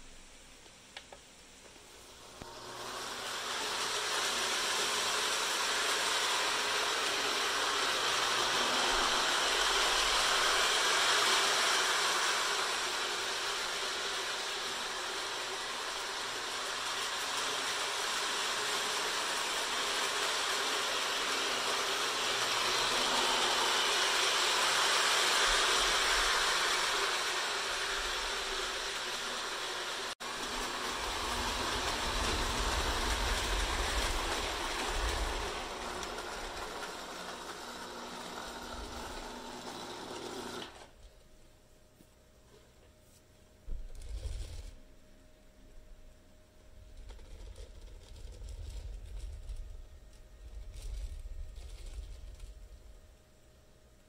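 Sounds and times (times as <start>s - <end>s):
toy train motor whirring on rails: 2.3s - 41.0s, 43.8s - 44.8s, 46.9s - 52.9s.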